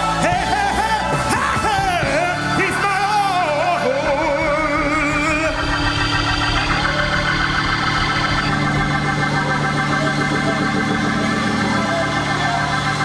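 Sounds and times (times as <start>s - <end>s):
organ sustained chords: 0.0s - 13.0s.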